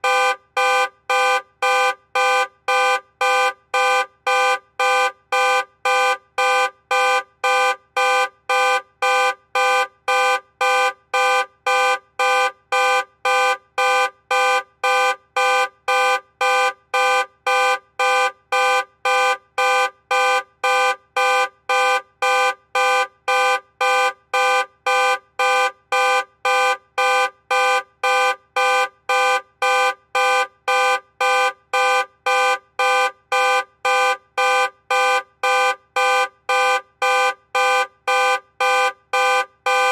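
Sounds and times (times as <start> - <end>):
car alarm horn blasts: 0.0 - 39.9.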